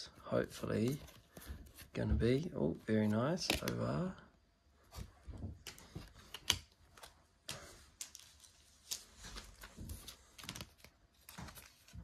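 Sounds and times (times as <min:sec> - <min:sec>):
card rustling: 0:00.4 - 0:04.1, 0:05.6 - 0:12.0.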